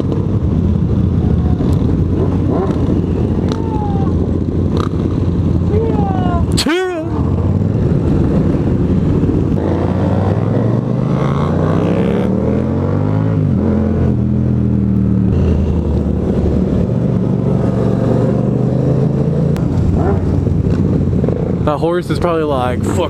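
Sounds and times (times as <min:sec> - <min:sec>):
motorcycle engine accelerating: 0:00.0 - 0:21.7
wind rush: 0:00.0 - 0:23.0.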